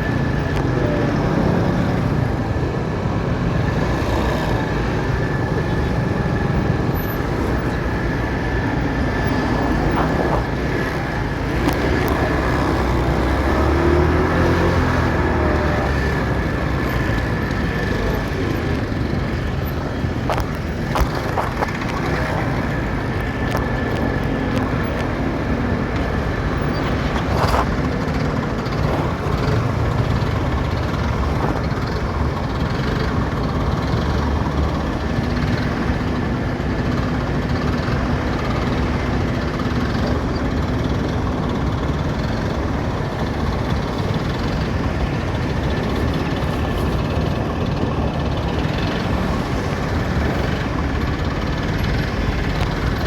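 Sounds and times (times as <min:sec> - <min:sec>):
motorcycle engine and road noise: 0:00.0 - 0:53.0
passing vehicles rumbling: 0:00.0 - 0:53.0.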